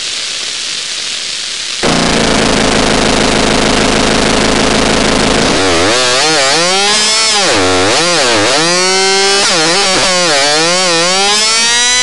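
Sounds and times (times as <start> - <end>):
synthesized chainsaw-like buzz: 1.8 - 12.0.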